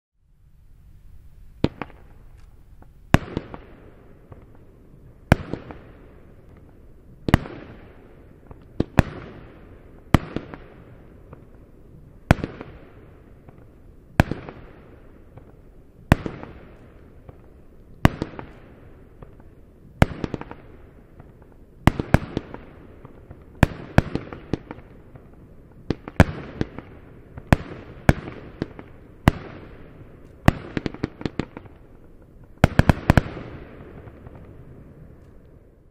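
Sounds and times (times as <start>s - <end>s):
firework bangs with hiss: 1.5s - 35.8s.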